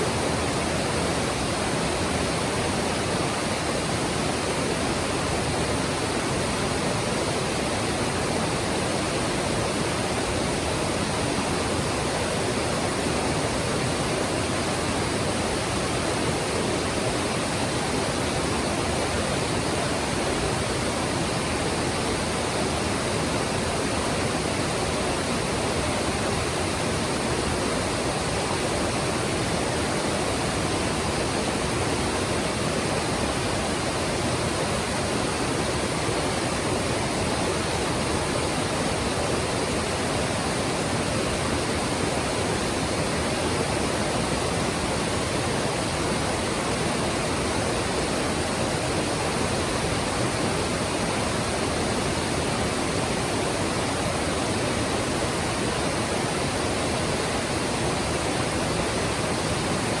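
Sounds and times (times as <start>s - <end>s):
stream rushing over rocks: 0.0s - 60.0s.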